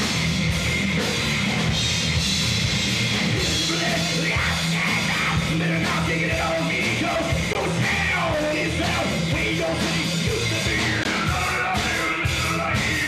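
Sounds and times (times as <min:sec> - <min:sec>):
bass guitar: 0:00.0 - 0:13.0
distorted electric guitars: 0:00.0 - 0:13.0
drums: 0:00.0 - 0:13.0.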